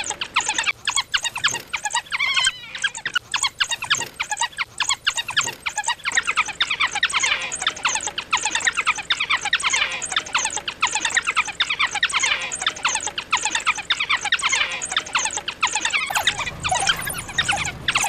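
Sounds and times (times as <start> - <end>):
wild dogs twittering: 0.0 - 18.0.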